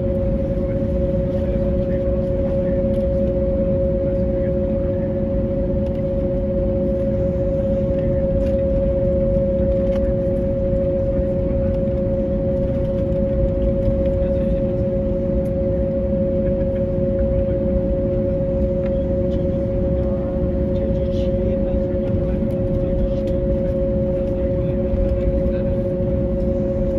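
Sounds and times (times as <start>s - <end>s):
aircraft cabin hum: 0.0s - 26.9s.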